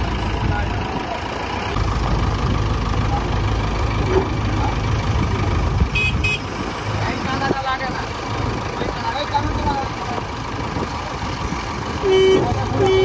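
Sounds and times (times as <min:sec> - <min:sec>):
diesel engine rumbling under load: 0:00.0 - 0:13.0.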